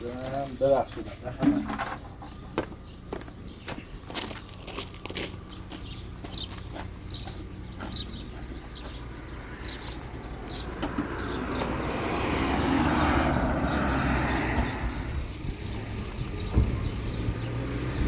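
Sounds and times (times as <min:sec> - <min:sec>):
birds chirping: 0:00.0 - 0:18.0
motor vehicle passing: 0:01.8 - 0:18.0.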